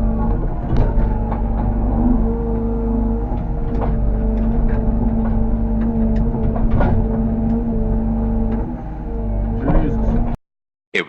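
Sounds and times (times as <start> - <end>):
excavator diesel engine running: 0.0 - 10.4
machine knocks and clanks: 0.0 - 10.4.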